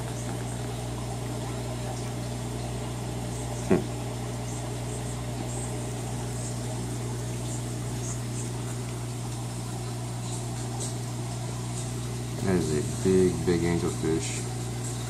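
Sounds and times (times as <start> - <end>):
aquarium pump humming and hissing: 0.0 - 15.0.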